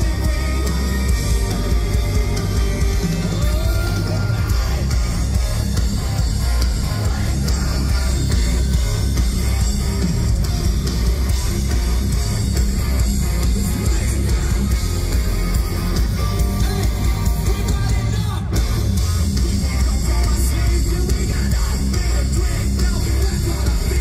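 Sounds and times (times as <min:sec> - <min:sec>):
booming bass and drums: 0:00.0 - 0:24.0
electric guitar: 0:00.0 - 0:24.0
live rock band playing: 0:00.0 - 0:24.0.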